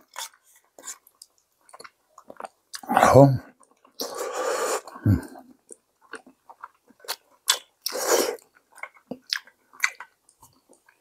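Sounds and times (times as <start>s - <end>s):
mouth smacks and chewing: 0.1s - 2.9s, 4.8s - 11.0s.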